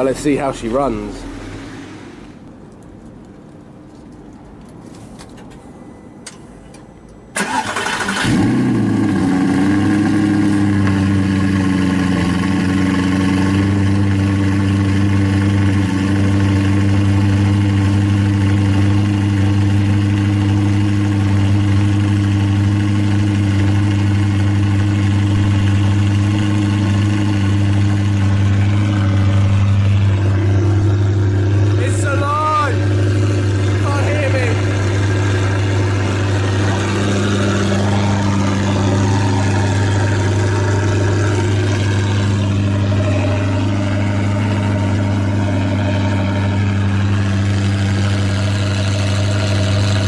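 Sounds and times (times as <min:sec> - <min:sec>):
car engine starting and idling: 0:00.0 - 0:50.0.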